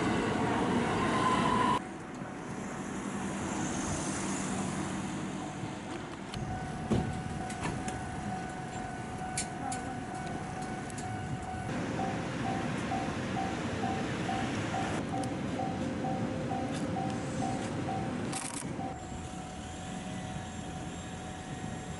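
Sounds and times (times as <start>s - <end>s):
street ambience: 0.0s - 21.9s
train passing over crossing: 0.0s - 21.9s.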